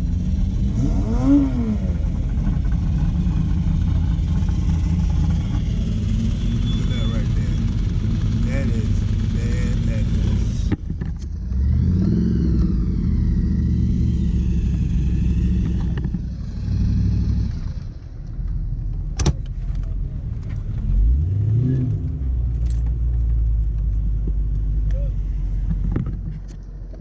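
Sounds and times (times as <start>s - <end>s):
car engine revving: 0.0s - 26.3s.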